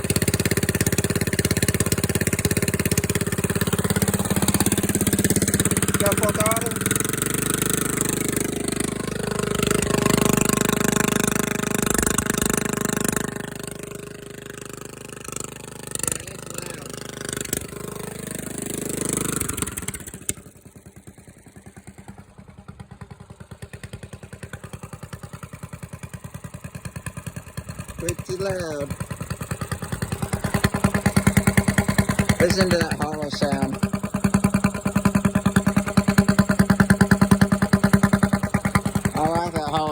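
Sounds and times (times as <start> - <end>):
engine revving at full throttle: 0.0 - 20.6, 27.2 - 39.9.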